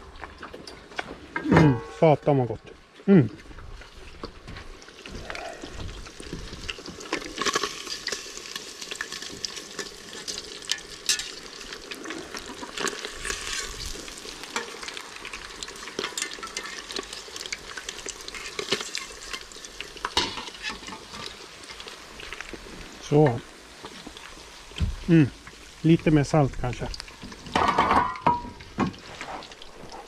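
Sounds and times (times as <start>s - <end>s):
oil sizzling and crackling: 0.0s - 30.0s.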